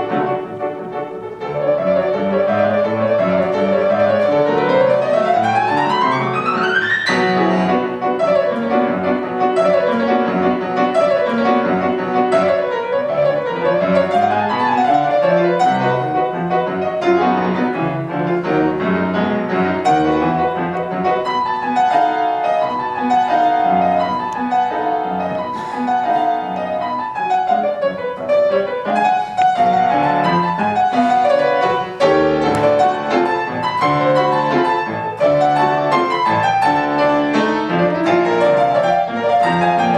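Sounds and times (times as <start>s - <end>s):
piano playing classical piece: 0.0s - 39.9s.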